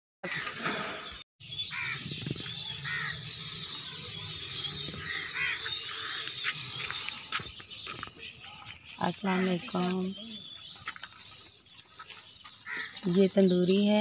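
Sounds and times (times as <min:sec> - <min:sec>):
birds chirping: 0:00.2 - 0:14.0
harsh bird calls: 0:00.2 - 0:14.0.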